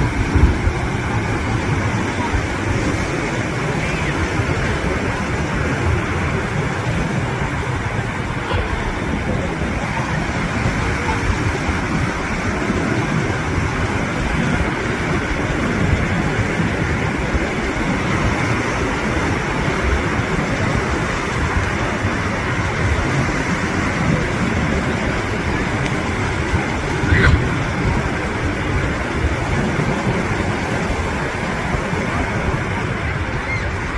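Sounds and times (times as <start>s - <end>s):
waves breaking on beach: 0.0s - 33.9s.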